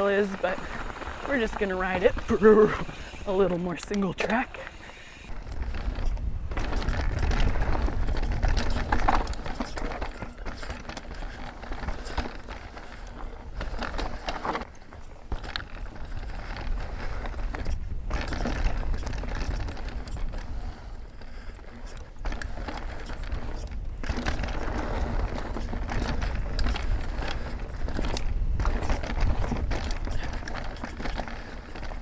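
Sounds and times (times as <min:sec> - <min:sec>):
bike clattering over bumps: 0:00.0 - 0:32.0
bike tyre noise on dirt: 0:00.0 - 0:32.0
wind rumbling on microphone: 0:04.7 - 0:32.0.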